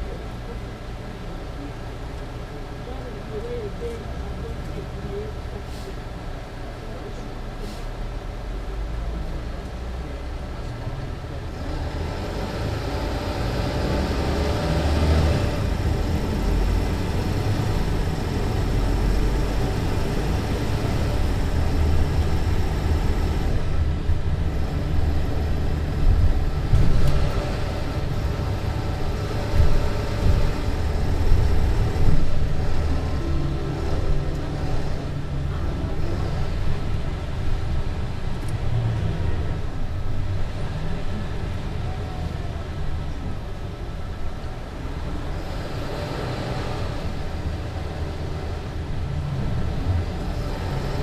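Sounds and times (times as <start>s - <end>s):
bus engine running: 0.0s - 51.0s.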